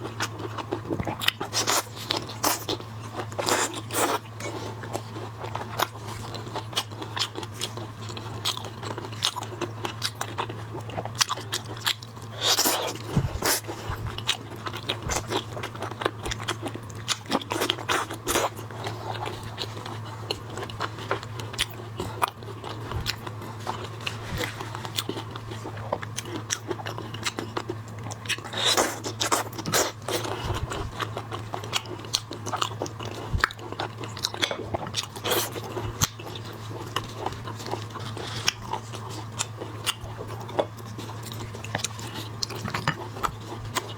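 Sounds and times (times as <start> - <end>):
chewing: 0.0 - 43.9
steady low hum: 0.0 - 43.9.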